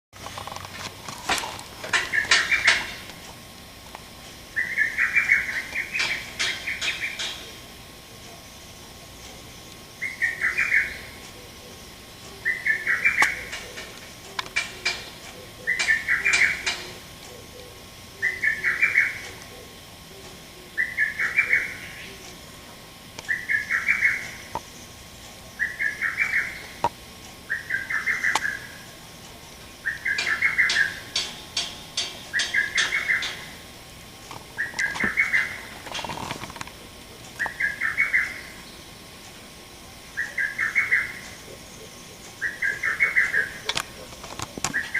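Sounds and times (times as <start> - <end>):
cuckoo singing: 4.5 - 24.9, 25.5 - 26.8, 27.4 - 33.7, 34.4 - 35.8, 36.7 - 44.9.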